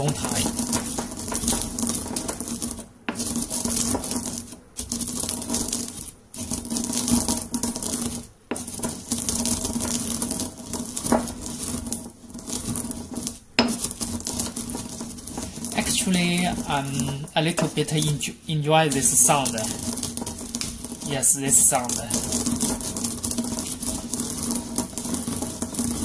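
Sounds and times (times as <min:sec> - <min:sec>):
pestle grinding coffee beans: 0:00.0 - 0:26.0.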